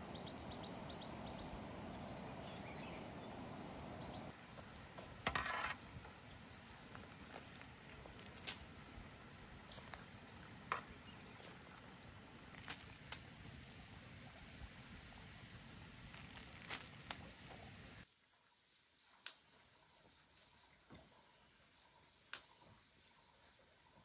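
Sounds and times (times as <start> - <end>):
faint outdoor hiss: 0.0 - 24.0
insects chirping: 0.0 - 24.0.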